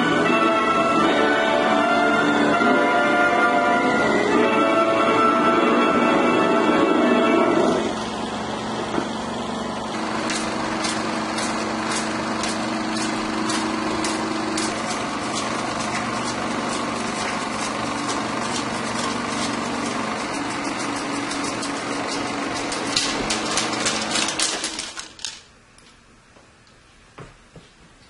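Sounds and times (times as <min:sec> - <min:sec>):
film projector whirring: 0:00.0 - 0:25.6.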